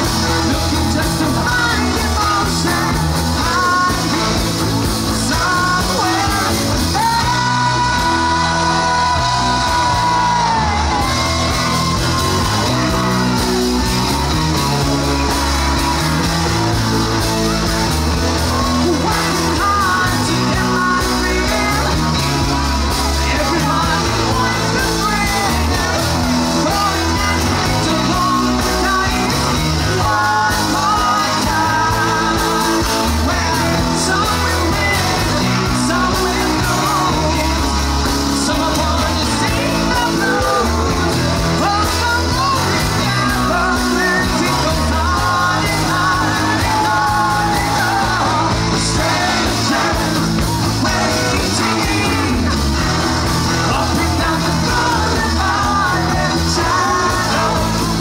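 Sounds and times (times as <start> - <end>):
man singing into a microphone: 0.0 - 13.5, 18.5 - 58.0
live rock band playing: 0.0 - 58.0.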